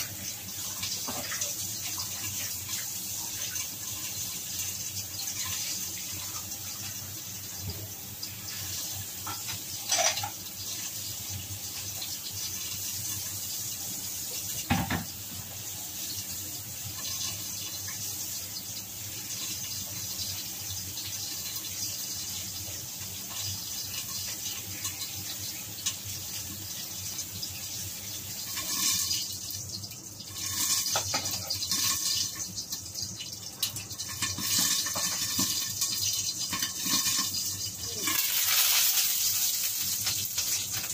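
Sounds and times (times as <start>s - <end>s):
meat sizzling in a wok: 0.0s - 40.9s.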